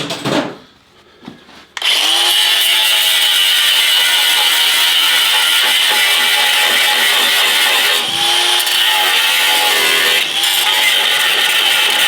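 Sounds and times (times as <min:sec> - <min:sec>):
power tool cutting sheet steel: 0:01.8 - 0:12.0.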